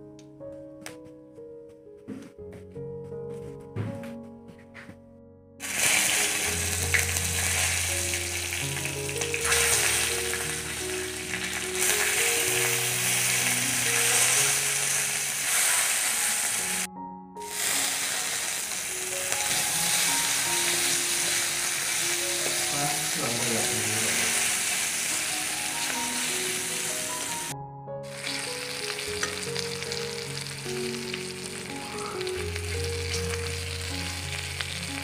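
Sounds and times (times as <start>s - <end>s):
soft background music: 0.0s - 35.0s
larvae sizzling in a wok: 5.6s - 16.9s, 17.5s - 35.0s.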